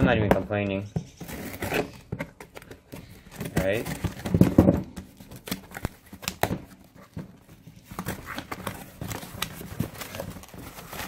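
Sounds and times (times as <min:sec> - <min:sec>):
cardboard box being opened: 0:01.2 - 0:11.0.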